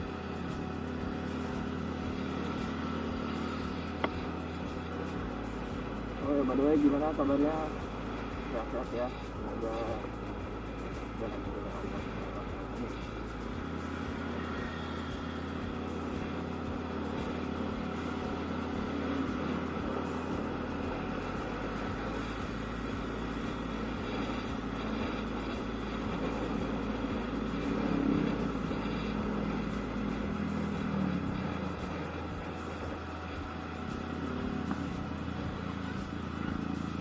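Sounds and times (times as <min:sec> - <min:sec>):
road rumble: 0:00.0 - 0:37.0
scooter engine running: 0:00.0 - 0:37.0.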